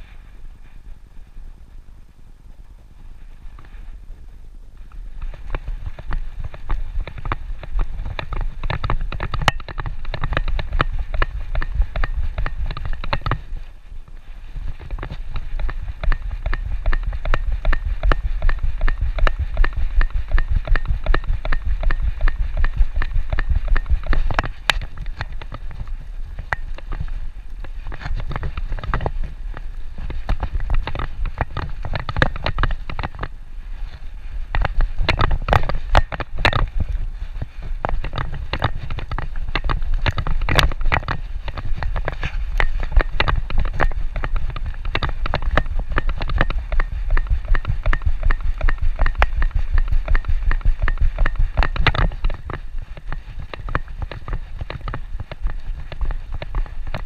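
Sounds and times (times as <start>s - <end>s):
clicks and knocks of steps: 4.8s - 13.8s, 14.5s - 57.0s
harness rubbing and shaking: 4.8s - 57.0s.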